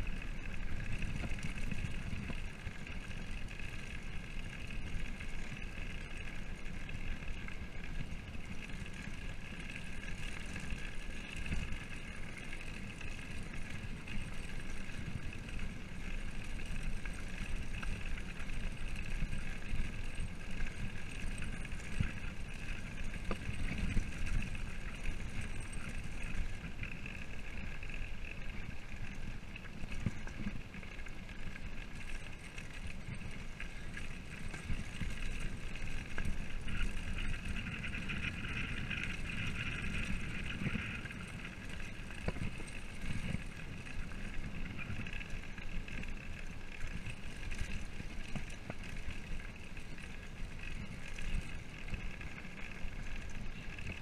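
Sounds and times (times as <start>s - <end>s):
bike rattling over bumps: 0.0s - 54.0s
bike tyres rumbling on gravel: 0.0s - 54.0s.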